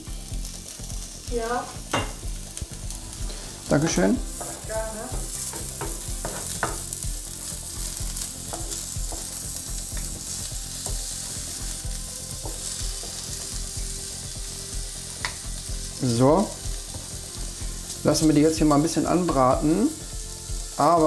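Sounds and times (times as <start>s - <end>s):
vegetables sizzling on a griddle: 0.0s - 21.0s.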